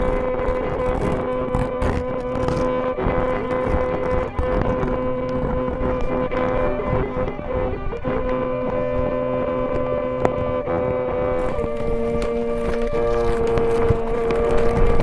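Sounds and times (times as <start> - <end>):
scratchy crackling: 0.0 - 15.0.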